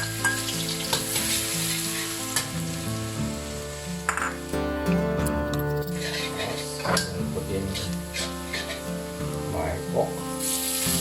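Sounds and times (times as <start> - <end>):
garlic sizzling in hot oil: 0.0 - 4.7, 6.0 - 11.0.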